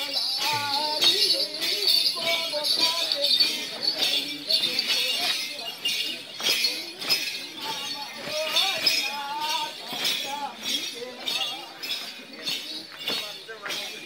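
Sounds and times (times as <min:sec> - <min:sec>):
rhythmic jingling beat: 0:00.0 - 0:14.0
voices singing a chant: 0:00.0 - 0:14.0.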